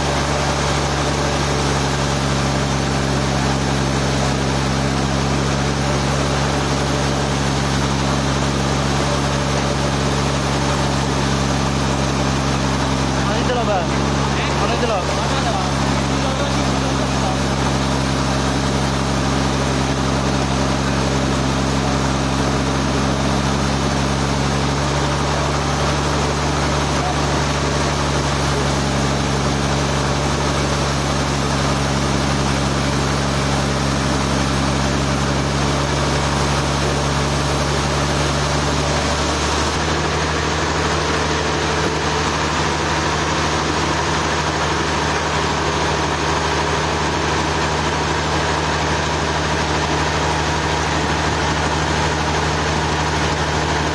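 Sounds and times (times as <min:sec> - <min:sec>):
sawmill engine humming: 0:00.0 - 0:53.9.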